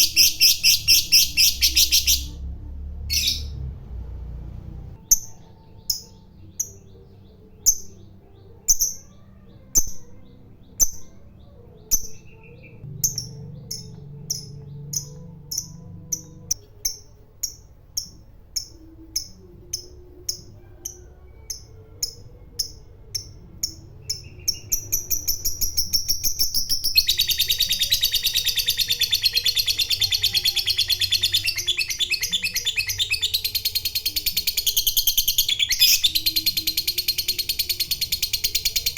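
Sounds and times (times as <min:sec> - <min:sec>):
lovebird chirping and chattering: 0:00.0 - 0:02.4, 0:03.1 - 0:03.6, 0:05.0 - 0:38.9.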